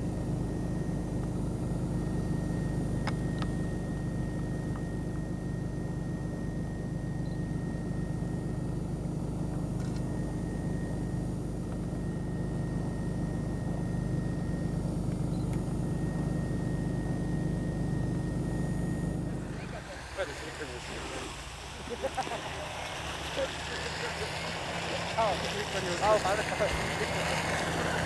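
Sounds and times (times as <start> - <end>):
faint high whine: 0.0 - 28.0
vehicle engine running: 0.0 - 28.0.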